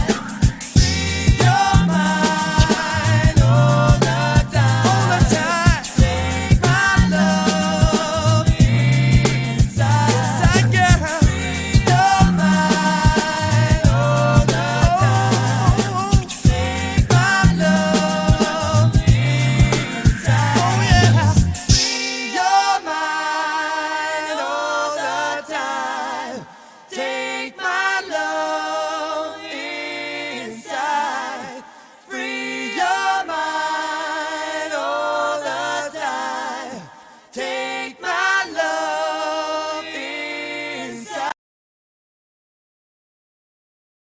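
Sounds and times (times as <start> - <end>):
unaccompanied voices singing in harmony: 0.0 - 41.4.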